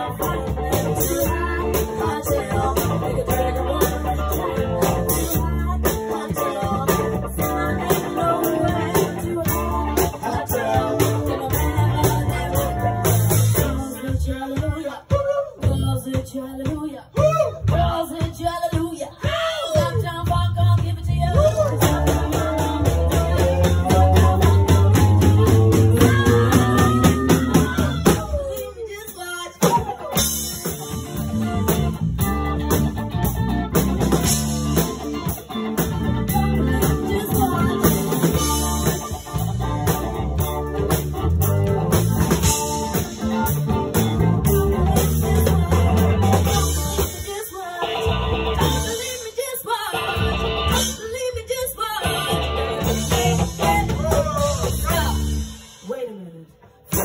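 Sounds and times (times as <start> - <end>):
live band playing: 0.0 - 57.0
person singing: 0.0 - 57.0.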